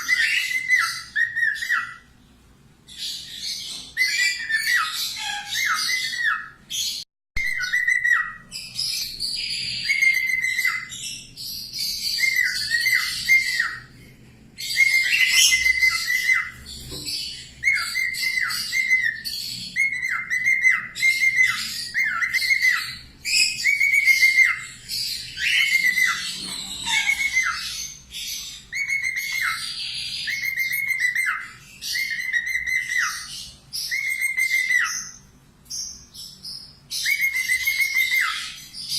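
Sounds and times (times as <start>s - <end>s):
songbird singing: 0.0s - 2.2s, 2.9s - 38.9s.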